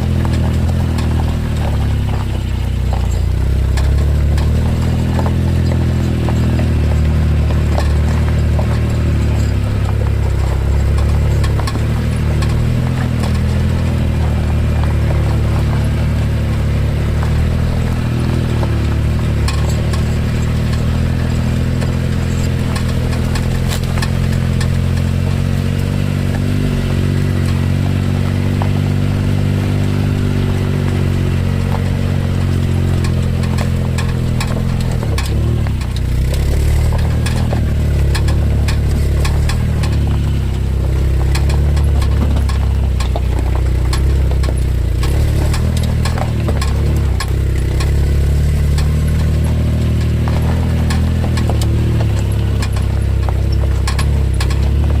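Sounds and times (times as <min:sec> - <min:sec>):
car engine droning: 0:00.0 - 0:55.0
light clicks and rattles: 0:00.0 - 0:55.0.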